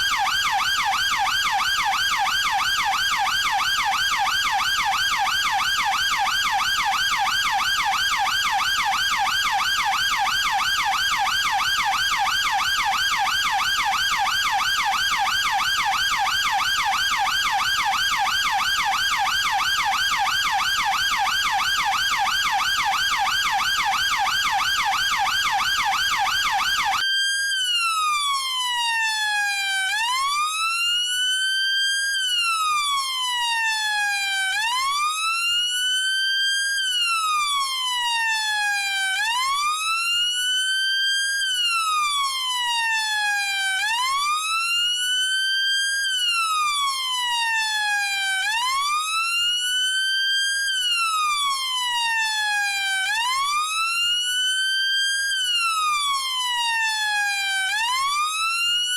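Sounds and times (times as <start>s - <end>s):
police siren: 0.0s - 58.9s.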